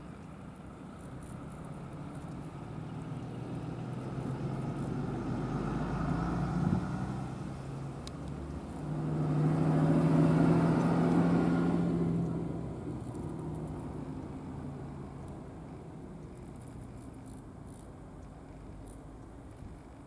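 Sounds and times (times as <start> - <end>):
passing traffic engine hum: 0.0 - 20.0.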